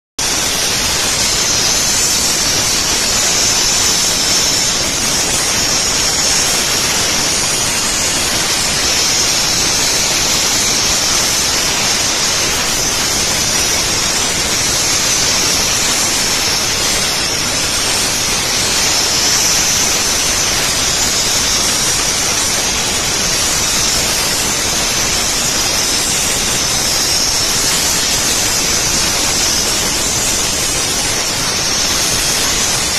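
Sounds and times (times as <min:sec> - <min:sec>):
steam cleaner hissing: 0:00.2 - 0:32.9.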